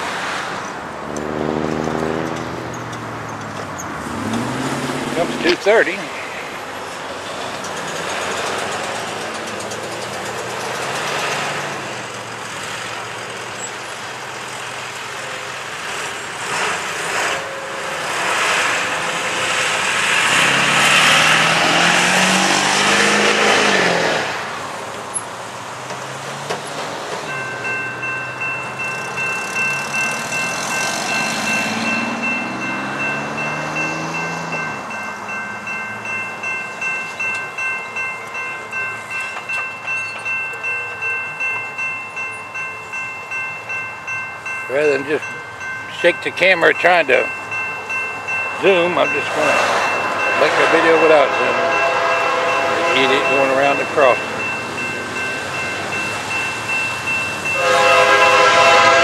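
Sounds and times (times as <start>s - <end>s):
vehicles driving over railroad crossing: 0.0s - 59.0s
crossing warning bell ringing: 0.6s - 59.0s.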